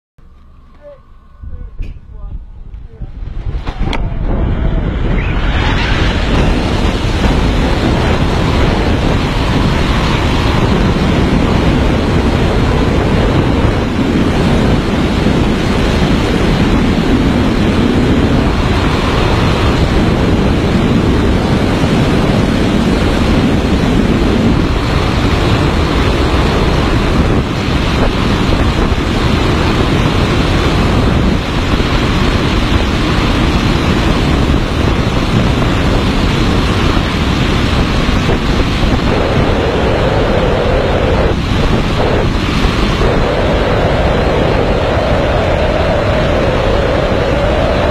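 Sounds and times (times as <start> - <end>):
wind rushing over microphone: 0.2 - 47.9.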